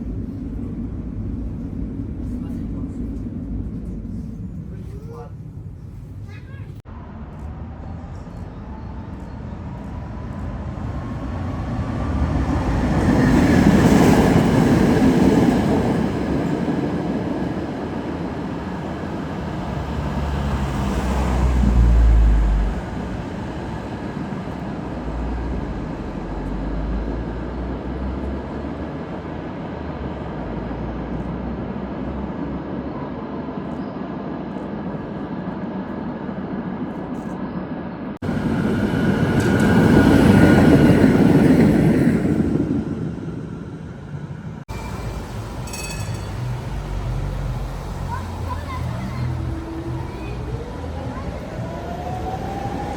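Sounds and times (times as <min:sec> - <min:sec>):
tram running on track: 0:00.0 - 0:52.9.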